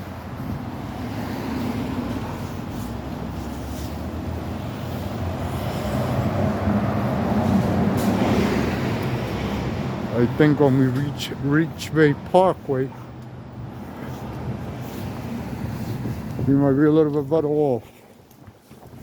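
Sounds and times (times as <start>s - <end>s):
cars passing: 0.0s - 18.2s.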